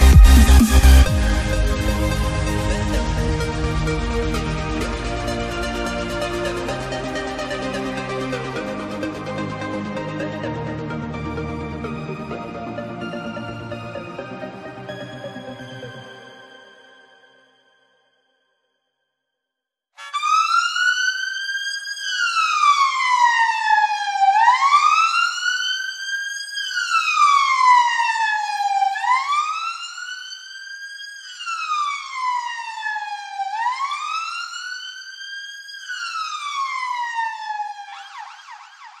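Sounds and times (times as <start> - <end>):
electronic siren wailing: 0.0 - 17.8, 20.0 - 39.0.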